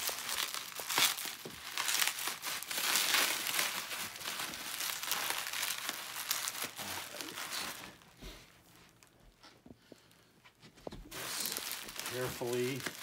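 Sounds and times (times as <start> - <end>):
bubble wrap crinkling: 0.0 - 9.3, 11.0 - 13.0.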